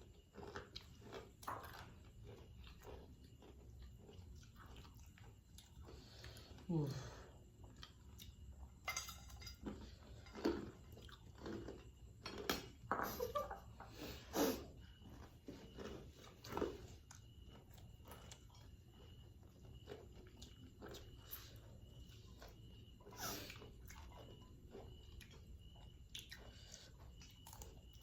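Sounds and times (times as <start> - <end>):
crunchy eating and chewing: 0.0 - 28.0.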